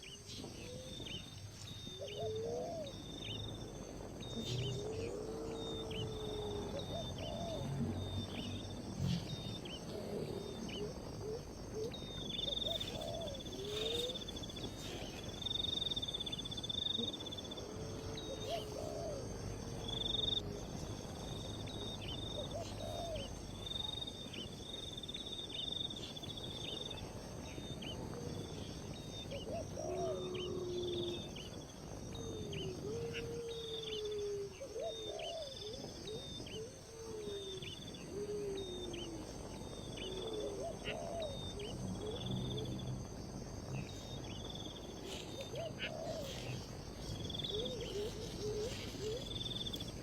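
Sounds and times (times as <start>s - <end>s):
insects trilling: 0.0s - 50.0s.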